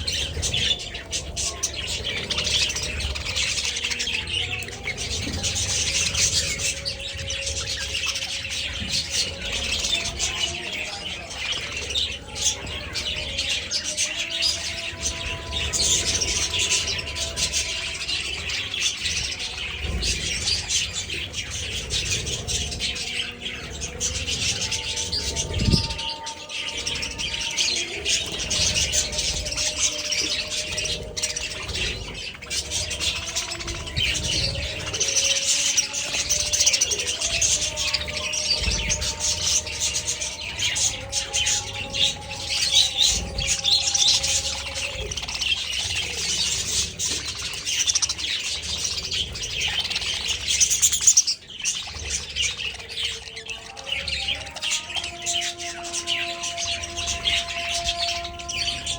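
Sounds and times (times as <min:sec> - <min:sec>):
budgerigars chirping: 0:00.0 - 0:58.9.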